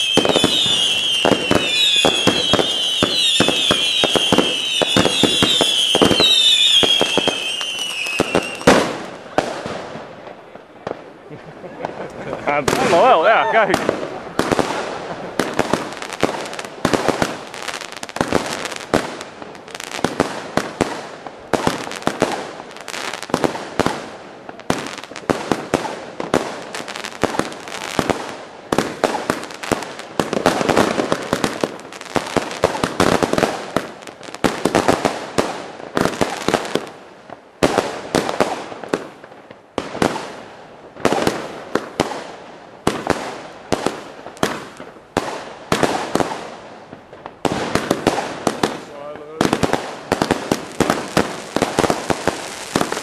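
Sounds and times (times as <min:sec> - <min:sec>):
crackling firework stars: 0:00.0 - 0:53.0
firework aerial bursts: 0:00.0 - 0:53.0.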